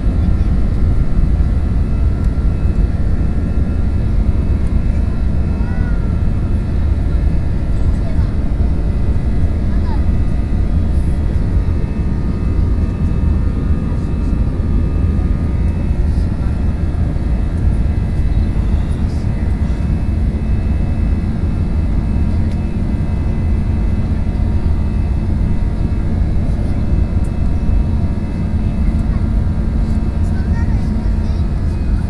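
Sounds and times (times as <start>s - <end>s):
airliner engines roaring in cabin: 0.0s - 32.0s.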